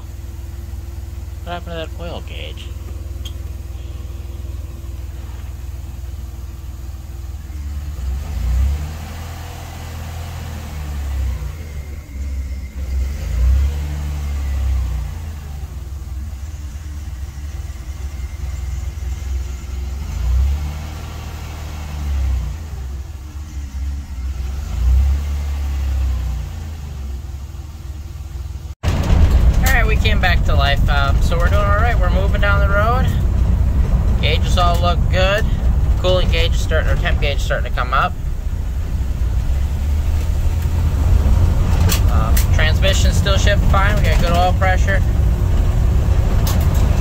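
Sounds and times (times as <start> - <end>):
car engine rumble inside cabin: 0.0 - 47.0.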